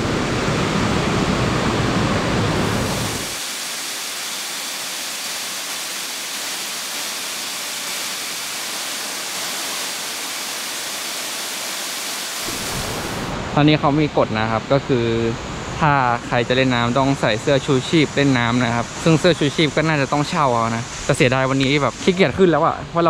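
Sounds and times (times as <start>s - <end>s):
waterfall rushing into pool: 0.0s - 23.0s.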